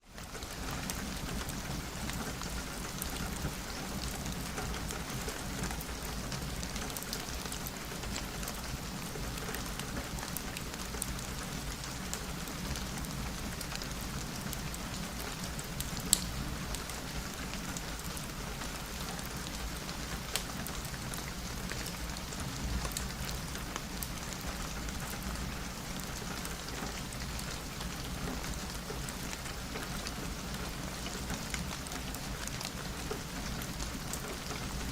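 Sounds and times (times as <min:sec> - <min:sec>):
rain pattering on a window: 0:00.0 - 0:34.9.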